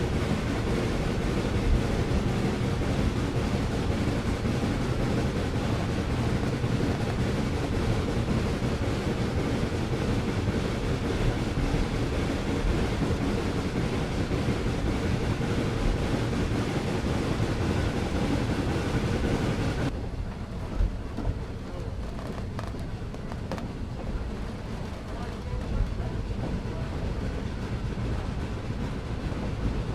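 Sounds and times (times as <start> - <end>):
train rumbling: 0.0 - 29.9.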